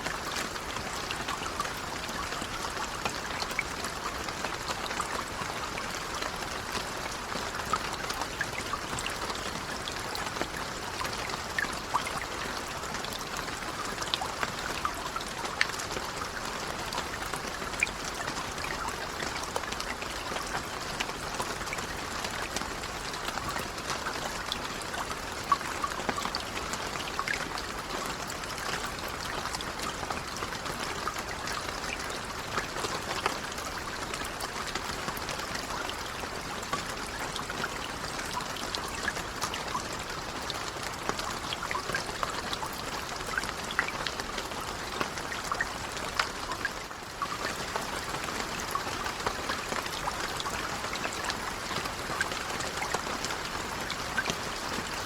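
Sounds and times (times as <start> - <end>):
gentle rain pattering: 0.0 - 55.0
water trickling: 0.0 - 55.0.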